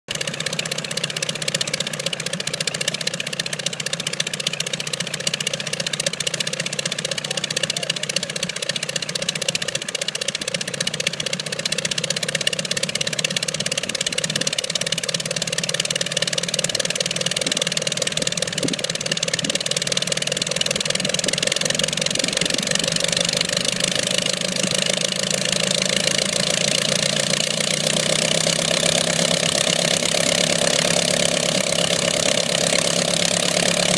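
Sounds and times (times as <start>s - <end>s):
aircraft engine running: 0.1s - 33.9s.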